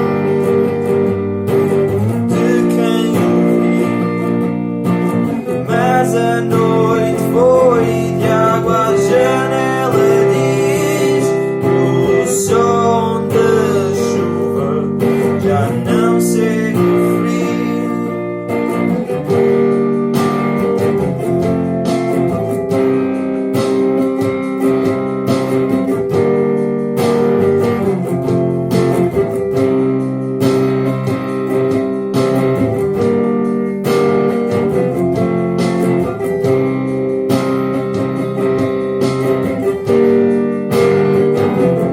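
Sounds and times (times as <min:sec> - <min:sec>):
looped acoustic guitar music: 0:00.0 - 0:41.9
percussive beat: 0:00.0 - 0:41.9
wavering wordless melodic line: 0:00.0 - 0:41.9.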